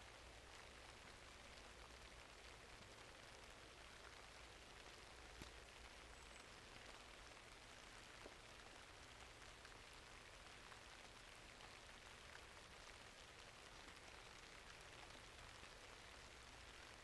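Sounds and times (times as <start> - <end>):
faint steady rain: 0.0 - 17.0.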